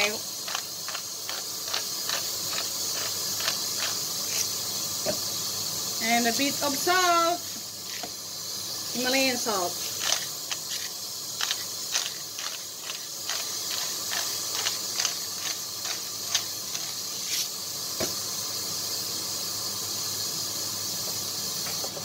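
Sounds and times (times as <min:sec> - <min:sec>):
steady sizzling hiss: 0:00.0 - 0:22.0.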